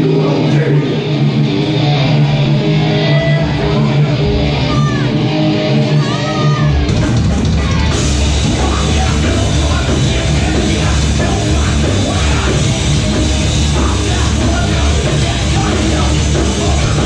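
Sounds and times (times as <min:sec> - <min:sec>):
distorted electric guitars: 0:00.0 - 0:17.0
heavy bass and drums: 0:00.0 - 0:17.0.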